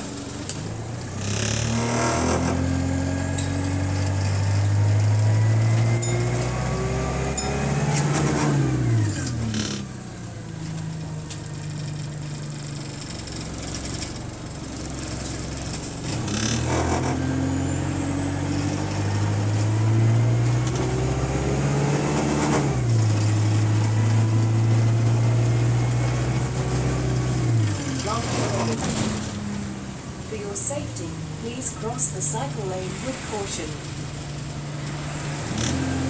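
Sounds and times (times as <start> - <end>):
bus engine: 0.0 - 36.0.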